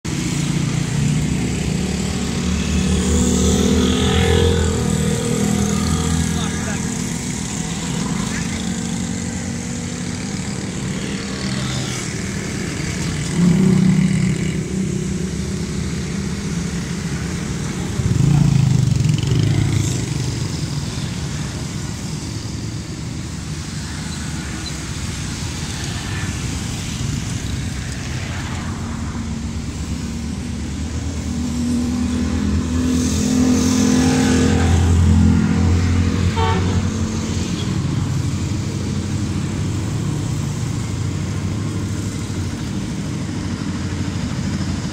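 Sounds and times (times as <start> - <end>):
road traffic rumble: 0.0 - 44.9
diesel locomotive approaching: 0.1 - 44.9.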